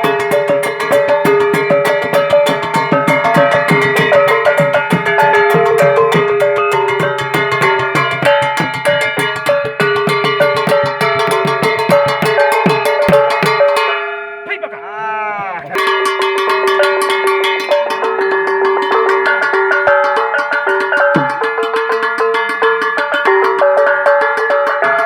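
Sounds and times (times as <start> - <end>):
fast percussion strokes: 0.0 - 25.0.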